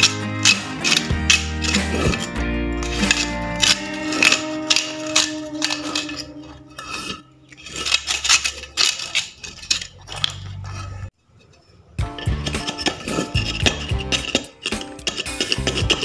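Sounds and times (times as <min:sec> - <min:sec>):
screwdriver scraping concrete block: 0:00.0 - 0:11.2, 0:12.0 - 0:16.0.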